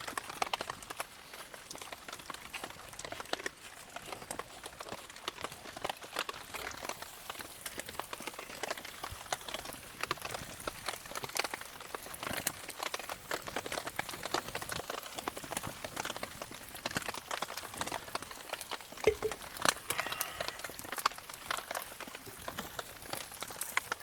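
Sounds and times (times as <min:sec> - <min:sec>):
campfire crackling and popping: 0:00.0 - 0:24.0
rain: 0:00.0 - 0:24.0.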